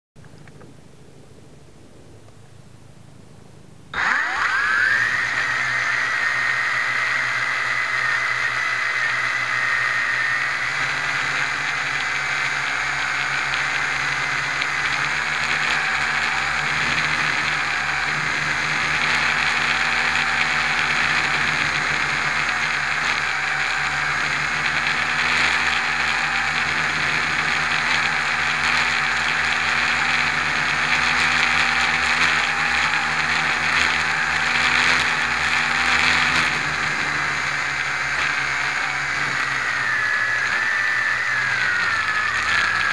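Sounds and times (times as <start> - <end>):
quadcopter propellers whining: 3.9 - 42.9.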